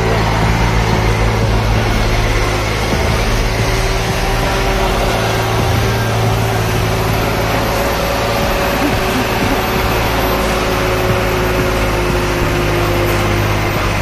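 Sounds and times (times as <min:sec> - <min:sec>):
truck diesel engine under load: 0:00.0 - 0:14.0.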